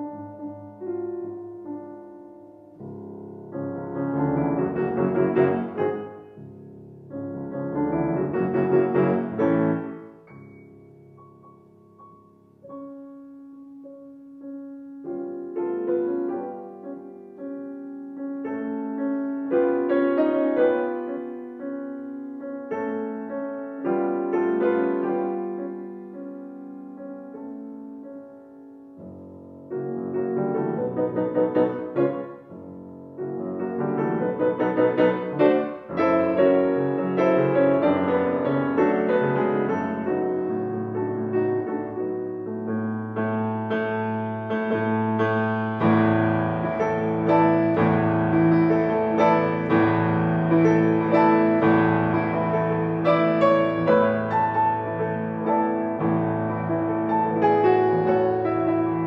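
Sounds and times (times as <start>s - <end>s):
solo classical piano: 0.0s - 59.0s.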